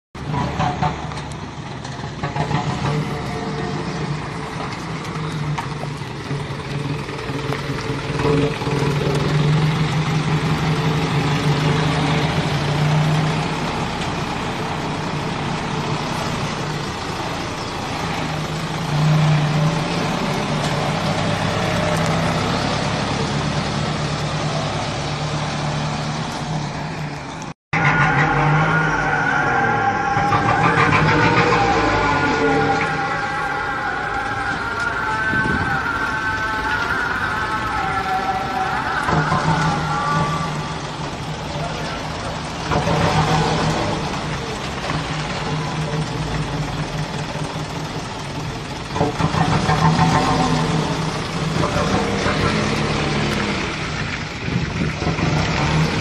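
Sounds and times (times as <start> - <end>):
diesel truck engine droning: 0.1 - 56.0.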